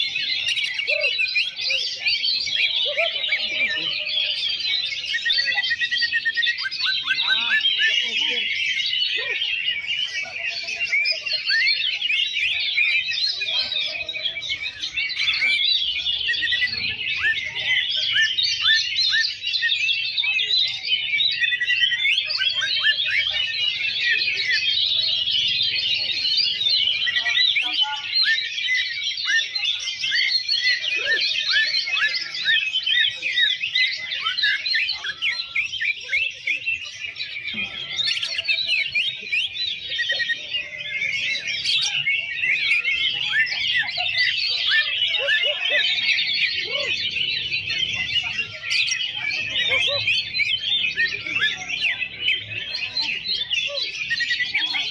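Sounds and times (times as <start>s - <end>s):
chorus of birds singing: 0.0s - 54.9s.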